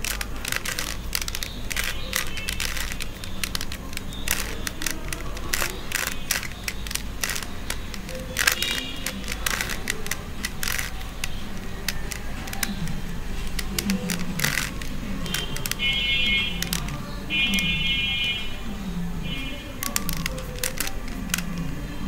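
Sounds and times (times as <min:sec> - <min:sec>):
puzzle cube clicking: 0:00.0 - 0:18.4, 0:19.2 - 0:22.0.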